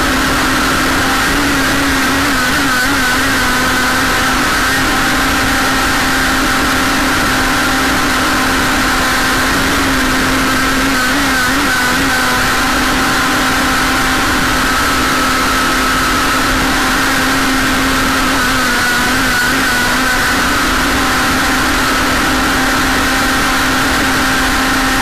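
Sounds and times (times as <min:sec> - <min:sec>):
model boat motor whining: 0:00.0 - 0:25.0.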